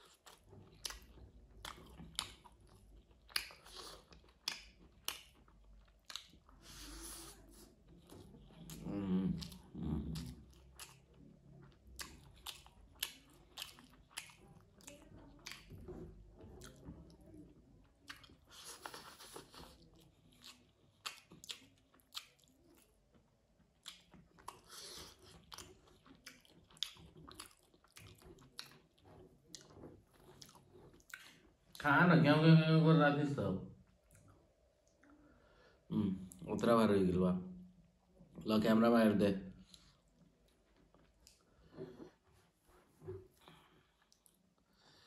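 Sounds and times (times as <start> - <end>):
chewing with mouth clicks: 0.0 - 31.8, 33.9 - 35.2, 39.6 - 42.3, 43.0 - 45.0.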